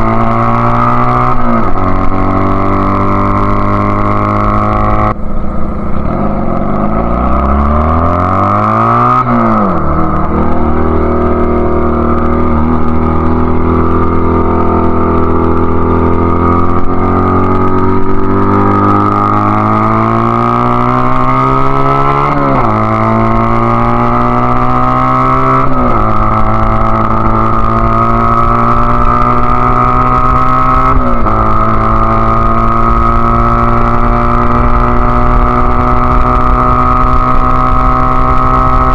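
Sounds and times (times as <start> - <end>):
engine upshifts: 0.0 - 38.9
motorcycle engine accelerating: 0.0 - 38.9.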